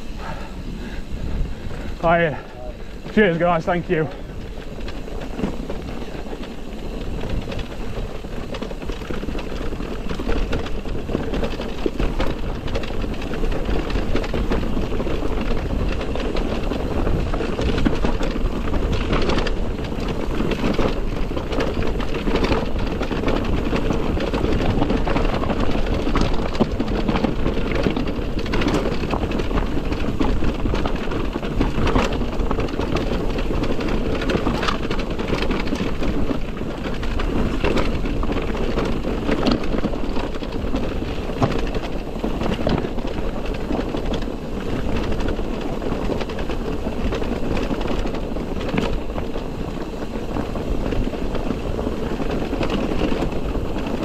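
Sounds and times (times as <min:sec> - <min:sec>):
bike rattling and knocking: 0:00.0 - 0:54.0
bike tyres on gravel: 0:00.0 - 0:54.0.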